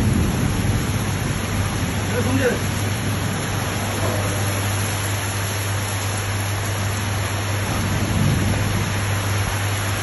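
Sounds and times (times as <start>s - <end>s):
heavy rain and wind: 0.0s - 10.0s.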